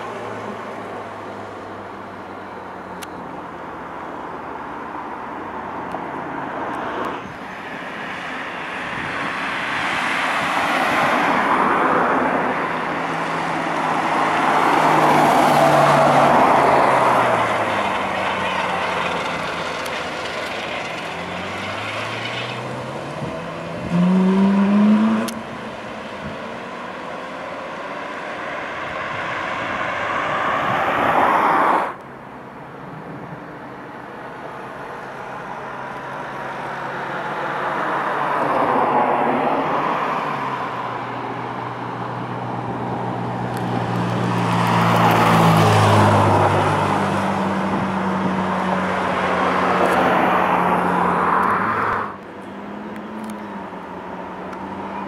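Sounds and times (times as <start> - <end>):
sports car engines accelerating: 5.6 - 55.0.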